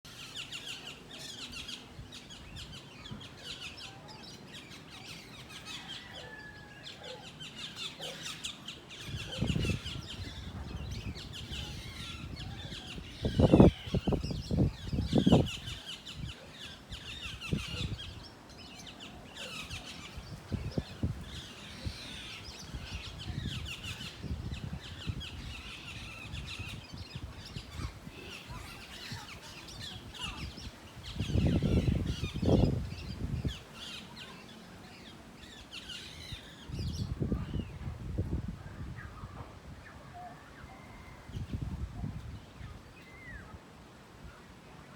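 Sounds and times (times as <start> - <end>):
small birds chirping: 0.1 - 43.6.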